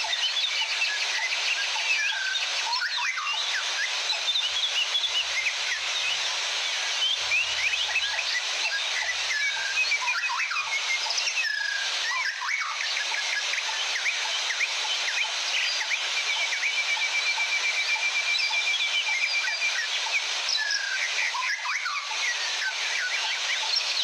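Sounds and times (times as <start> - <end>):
birds chirping and whistling: 0.0 - 24.0.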